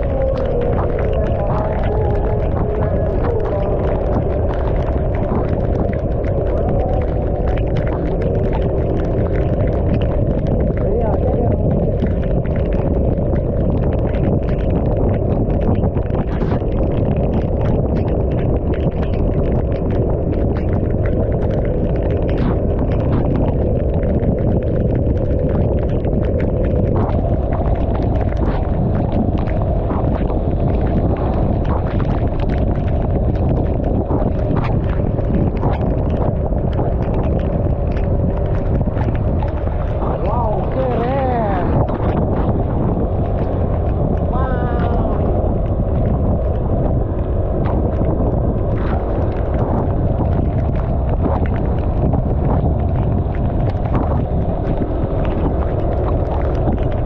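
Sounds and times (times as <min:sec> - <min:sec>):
raindrops ticking on camera: 0:00.0 - 0:57.0
wind rushing over microphone: 0:00.0 - 0:57.0.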